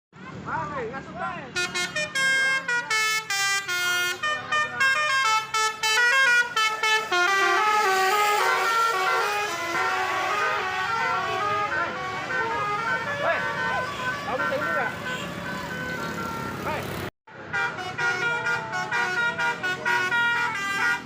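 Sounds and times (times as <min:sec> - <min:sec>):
multi-tone bus horn playing a tune: 0:01.6 - 0:21.0.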